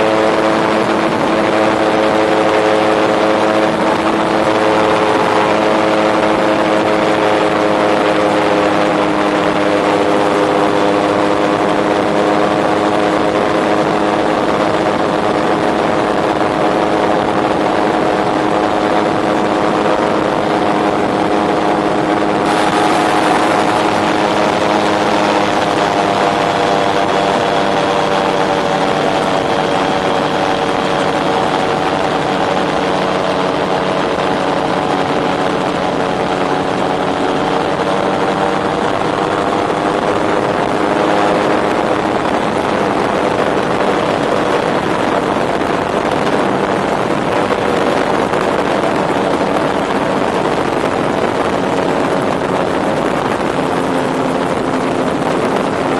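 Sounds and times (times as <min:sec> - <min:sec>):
aircraft engine drone: 0:00.0 - 0:55.9
wind rush: 0:00.0 - 0:55.9.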